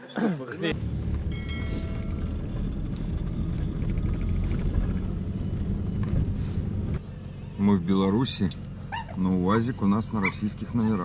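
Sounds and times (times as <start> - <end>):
car engine hum: 0.7 - 11.0
tyre and road noise: 0.7 - 11.0.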